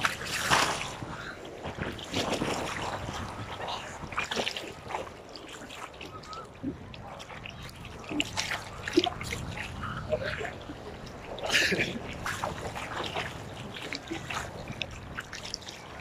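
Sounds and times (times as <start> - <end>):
water splashing and lapping: 0.0 - 16.0.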